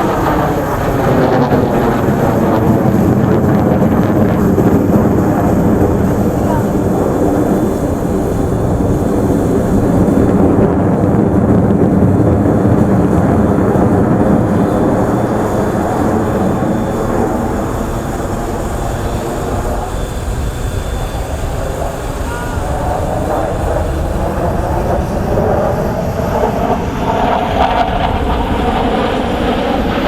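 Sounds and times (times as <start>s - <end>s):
fighter jet engines roaring: 0.0s - 30.0s.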